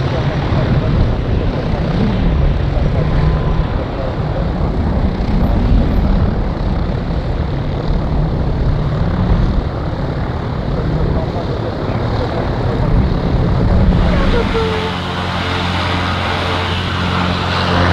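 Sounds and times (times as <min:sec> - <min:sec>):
jet engines running: 0:00.0 - 0:17.9.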